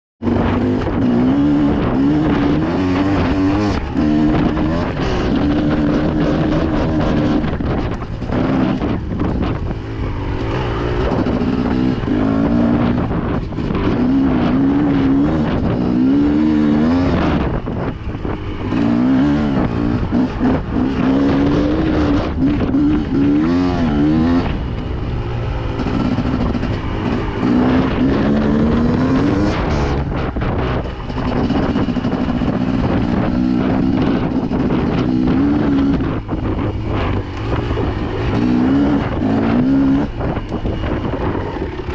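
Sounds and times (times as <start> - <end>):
dirt bike engine revving: 0.2 - 41.9.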